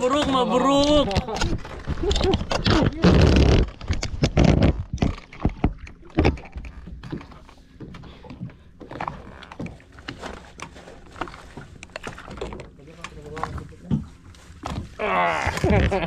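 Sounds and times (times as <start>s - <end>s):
knocks and thumps on a boat: 0.0s - 16.0s.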